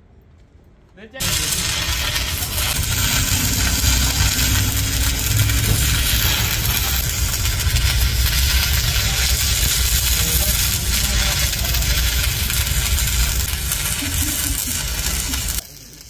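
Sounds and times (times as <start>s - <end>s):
steady low rumble: 1.2s - 15.6s
welding arc crackling and hissing: 1.2s - 16.0s.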